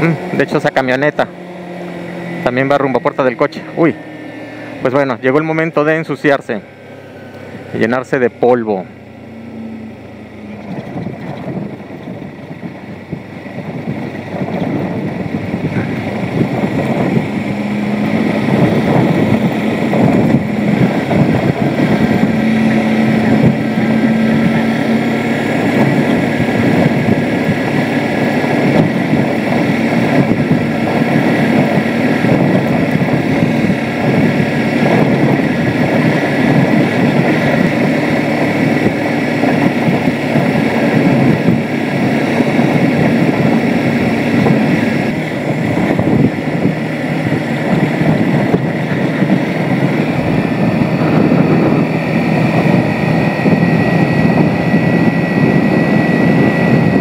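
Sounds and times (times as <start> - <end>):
motorcycle engine cruising: 0.0 - 57.0
wind on microphone: 8.8 - 57.0.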